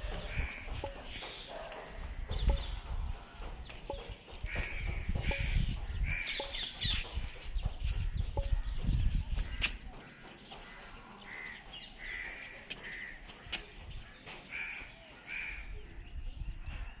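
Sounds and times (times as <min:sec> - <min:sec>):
bird harsh calls: 0:00.0 - 0:16.1.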